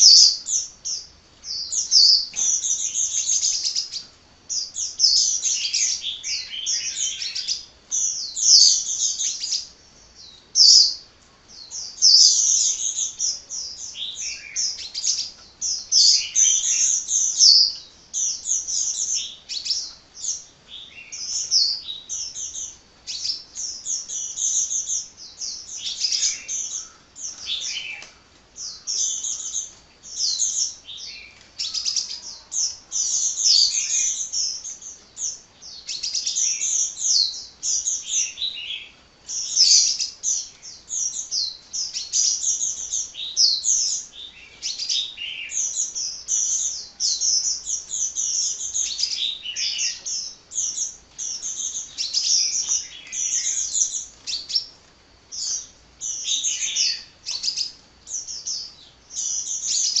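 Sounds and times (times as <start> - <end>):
bird singing high chirps: 0.0 - 60.0.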